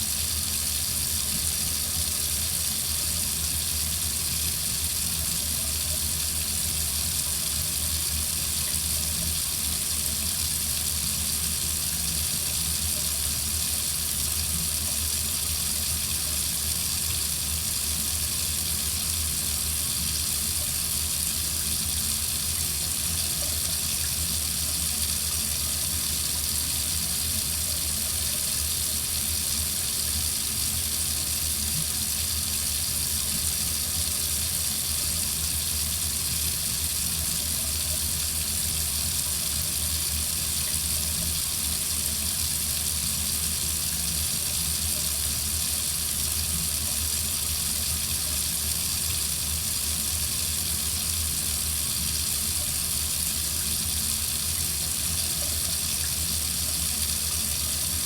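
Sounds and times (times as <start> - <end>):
water faucet running: 0.0 - 58.0.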